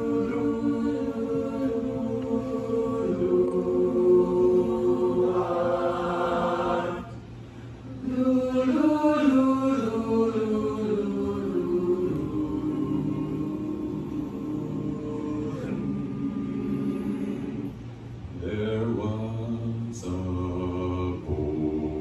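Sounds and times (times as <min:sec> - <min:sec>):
a cappella group singing: 0:00.0 - 0:22.0.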